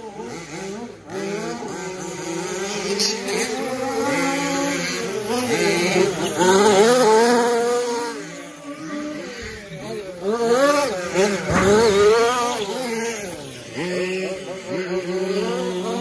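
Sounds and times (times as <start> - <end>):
remote-control truck motors: 0.0 - 16.0.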